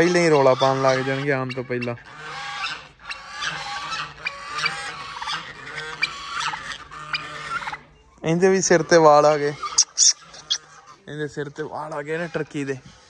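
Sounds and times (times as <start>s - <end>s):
geese honking and cackling: 0.0s - 13.0s.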